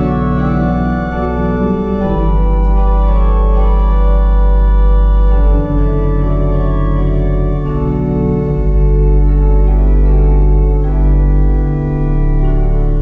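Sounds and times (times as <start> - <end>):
organ chords: 0.0 - 13.0.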